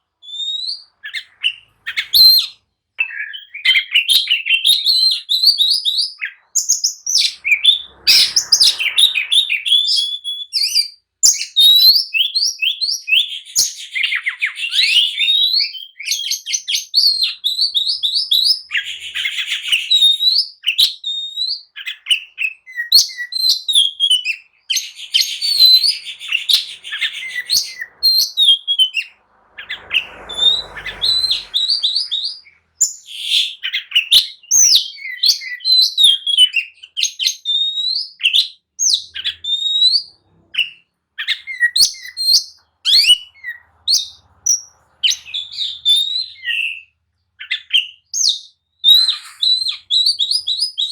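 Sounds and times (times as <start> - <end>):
bird singing varied whistles: 0.2 - 50.9.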